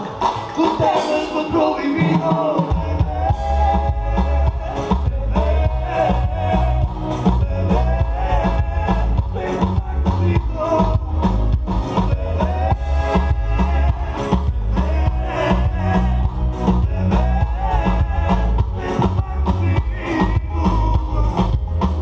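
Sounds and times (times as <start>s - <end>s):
heavy bass: 0.0s - 22.0s
live band through speakers: 0.0s - 22.0s
person singing: 0.0s - 22.0s
steady drum beat: 2.0s - 22.0s.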